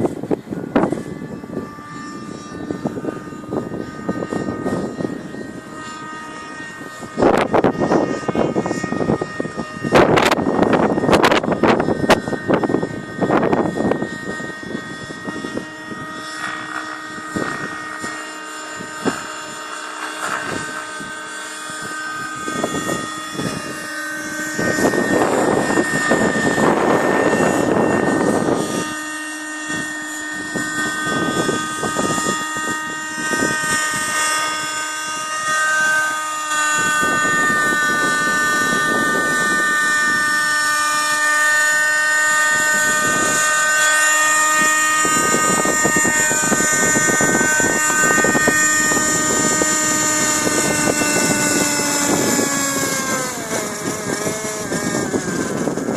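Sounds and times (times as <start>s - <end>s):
rc helicopter engine whine: 0.0s - 55.9s.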